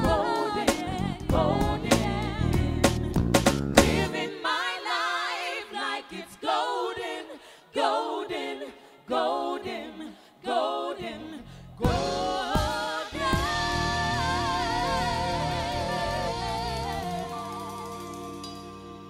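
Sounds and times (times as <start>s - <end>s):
group singing in harmony: 0.0s - 3.1s, 3.8s - 19.0s.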